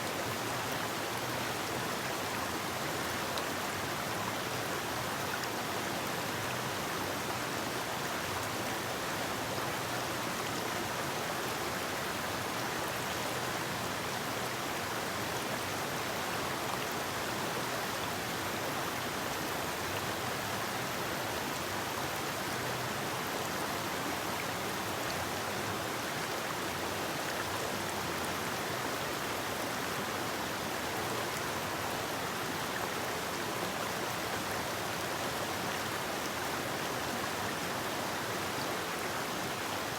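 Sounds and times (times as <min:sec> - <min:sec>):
river flowing: 0:00.1 - 0:39.9.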